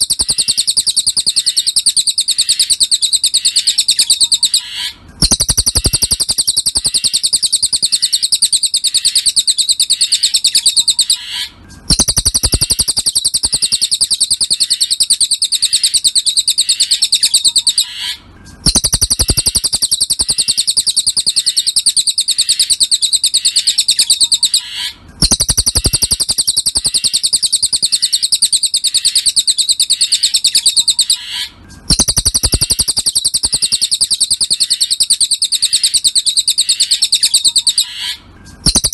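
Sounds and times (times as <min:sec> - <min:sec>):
songbird chattering trill: 0:00.0 - 0:38.9.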